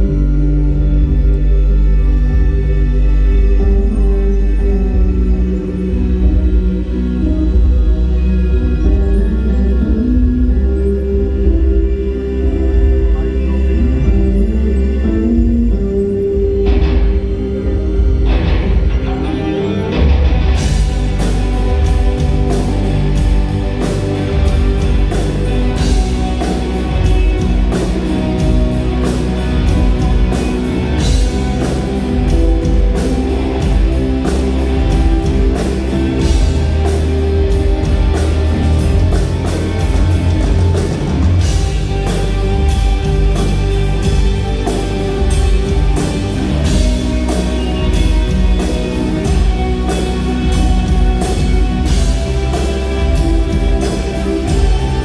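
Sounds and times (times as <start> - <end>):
driving drum beat: 0.0 - 55.0
live rock band playing: 0.0 - 55.0.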